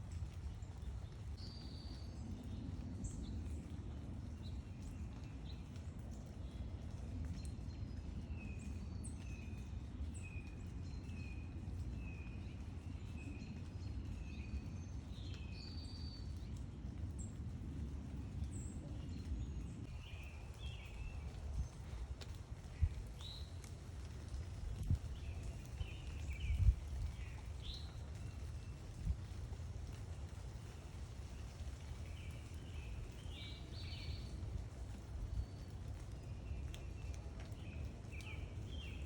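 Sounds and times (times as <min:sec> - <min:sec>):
low background rumble: 0:00.0 - 0:39.0.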